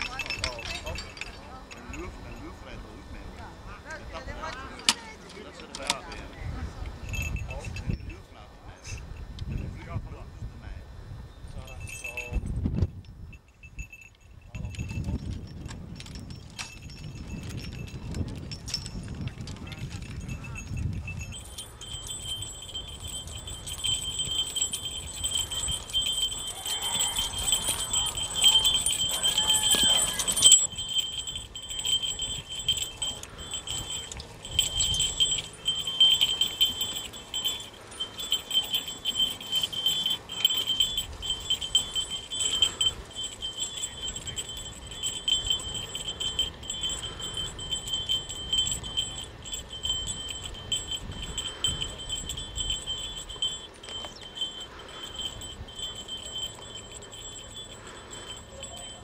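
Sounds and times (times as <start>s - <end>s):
horse harness jingling: 0.0s - 9.7s, 11.6s - 59.0s.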